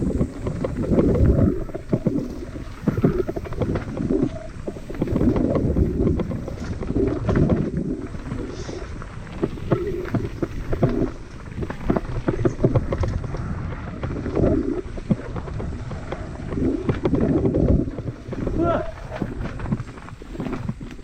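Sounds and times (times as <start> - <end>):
mountain bike rattling and knocking: 0.0 - 21.0
wind on microphone: 0.0 - 21.0.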